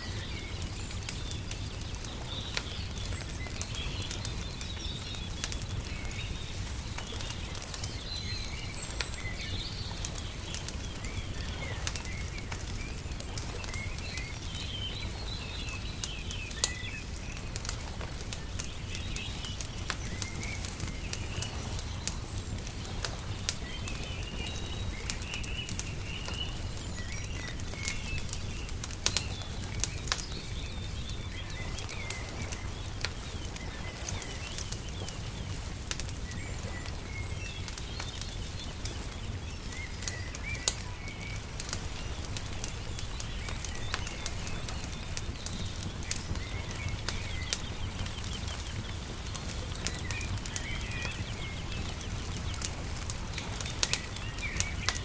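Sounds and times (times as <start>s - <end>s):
small birds chirping: 0.0s - 55.0s
wood fire crackling and popping: 0.0s - 55.0s.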